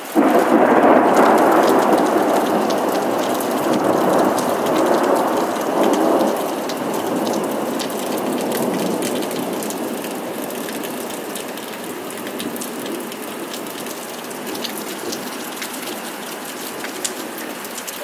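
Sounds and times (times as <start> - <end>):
thunder rumble: 0.0 - 17.6
heavy rain falling: 0.0 - 18.0
raindrops ticking close by: 0.0 - 18.0.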